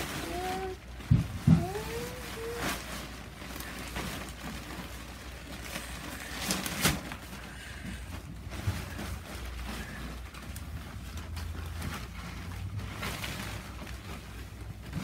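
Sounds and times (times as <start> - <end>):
tent fabric rustling: 0.0 - 15.0.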